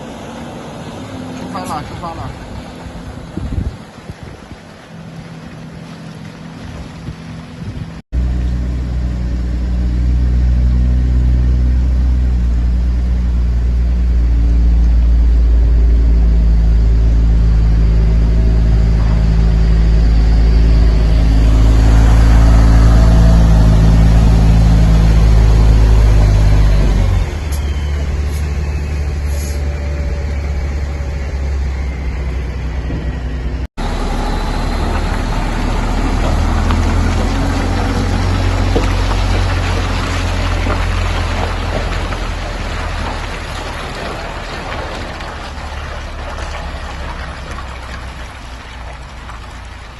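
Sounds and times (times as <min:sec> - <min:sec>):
heavy vehicle engine running: 0:00.0 - 0:49.9.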